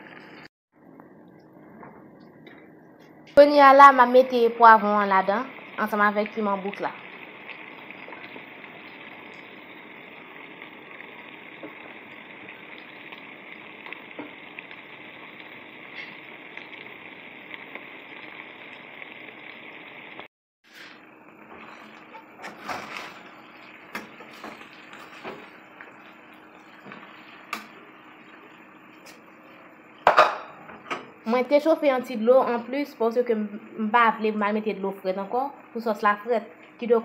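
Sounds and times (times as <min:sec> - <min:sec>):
meat sizzling in pot: 0:03.4 - 0:37.0.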